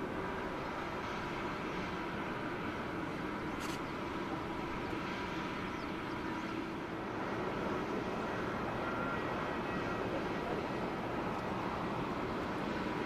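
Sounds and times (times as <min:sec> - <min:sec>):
faint engine whine: 0:00.0 - 0:13.0
jet engines humming: 0:00.0 - 0:13.0.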